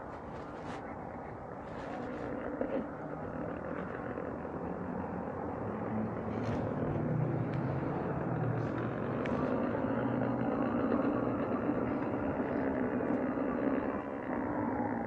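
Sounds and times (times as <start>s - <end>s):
tyres rolling over brick paving: 1.8s - 14.9s.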